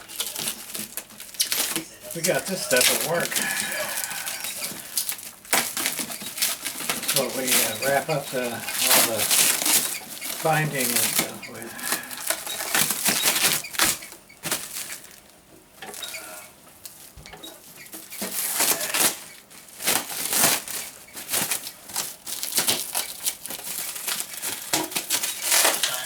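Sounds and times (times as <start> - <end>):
packing material rustling: 0.0 - 26.0.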